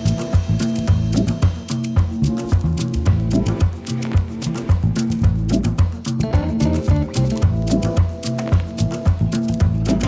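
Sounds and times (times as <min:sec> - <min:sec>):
bass: 0:00.0 - 0:10.0
drum beat: 0:00.0 - 0:10.0
plucked melody notes: 0:00.0 - 0:10.0.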